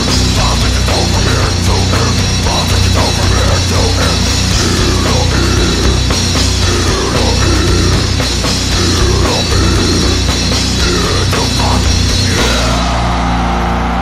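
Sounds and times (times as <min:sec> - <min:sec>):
bass guitar: 0:00.0 - 0:14.0
drum kit: 0:00.0 - 0:14.0
electric guitar: 0:00.0 - 0:14.0.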